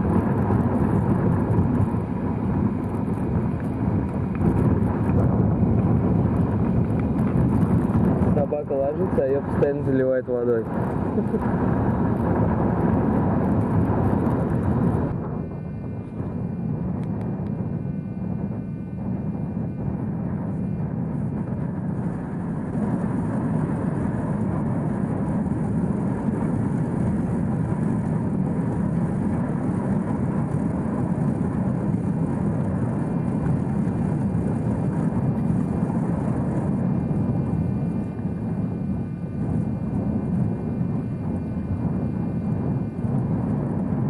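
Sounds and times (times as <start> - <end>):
wind blowing across microphone: 0.0 - 44.0.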